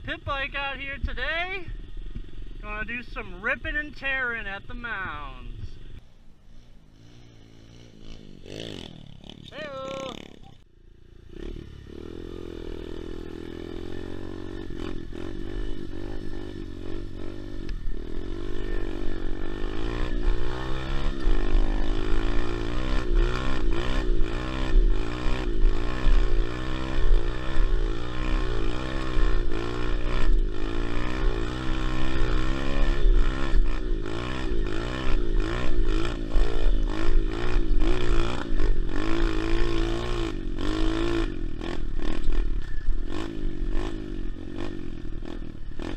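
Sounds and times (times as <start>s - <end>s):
pit bike engine revving: 0.0s - 45.9s.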